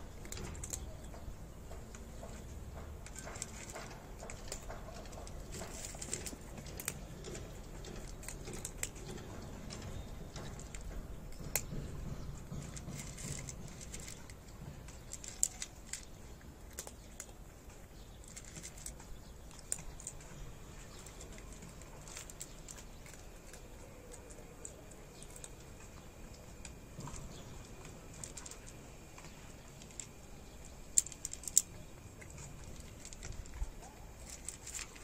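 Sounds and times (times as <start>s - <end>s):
cat crunching dry kibble: 0.0s - 35.0s.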